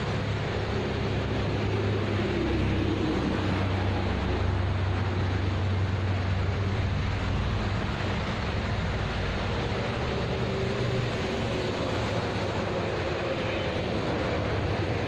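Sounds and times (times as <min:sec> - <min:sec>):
low engine hum: 0:00.0 - 0:15.0
road traffic passing: 0:00.0 - 0:15.0.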